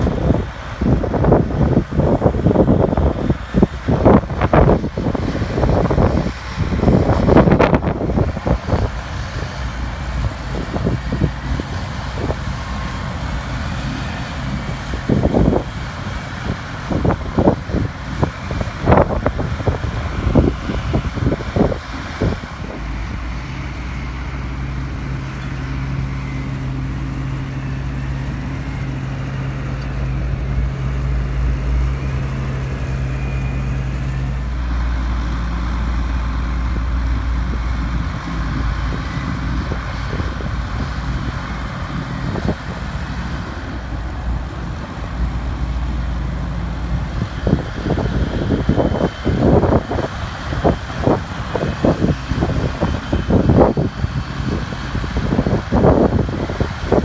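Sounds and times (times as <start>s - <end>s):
heavy diesel engines droning: 0.0s - 57.0s
held engine tone: 0.0s - 57.0s.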